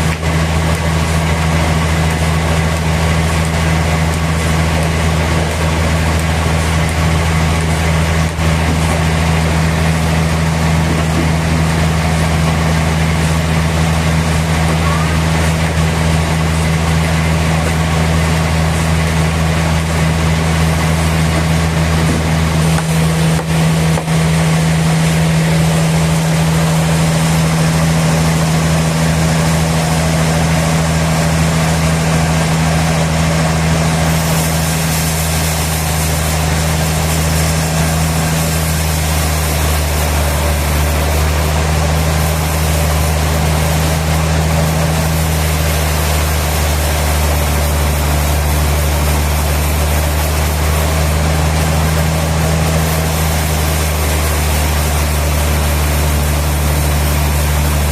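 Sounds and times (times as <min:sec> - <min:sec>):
sawmill machinery droning: 0:00.0 - 0:57.9.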